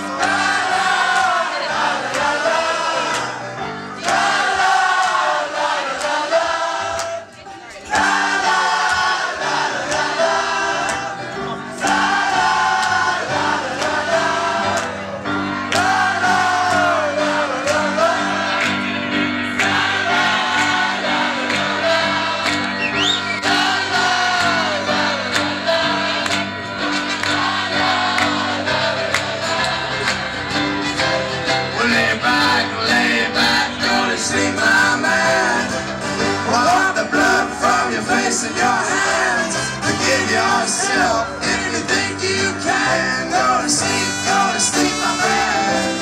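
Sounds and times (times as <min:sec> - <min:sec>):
voices singing in harmony: 0:00.0 - 0:46.0.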